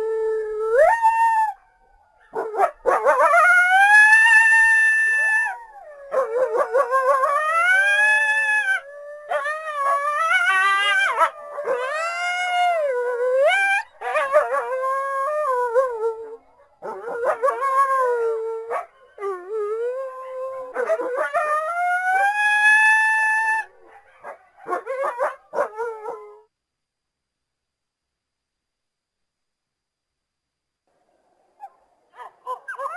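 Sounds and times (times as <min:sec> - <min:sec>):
coyotes howling and yipping: 0:00.6 - 0:26.4, 0:31.6 - 0:32.9.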